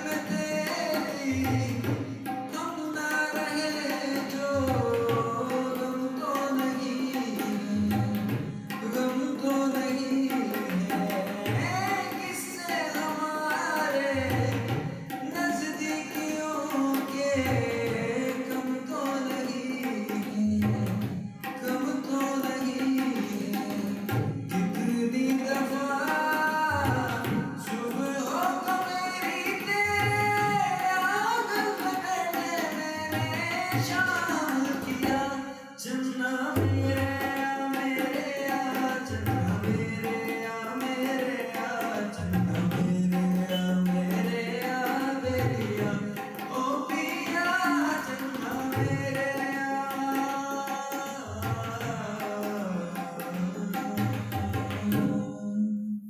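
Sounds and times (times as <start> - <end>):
tabla drumming: 0.0 - 55.7
man singing into a microphone: 0.0 - 56.0.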